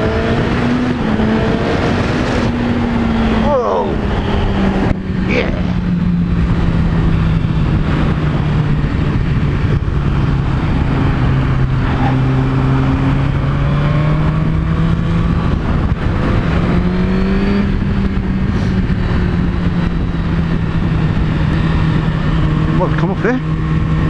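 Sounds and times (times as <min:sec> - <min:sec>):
heavy wind noise: 0:00.0 - 0:24.0
motorcycle engine running hard: 0:00.0 - 0:24.0.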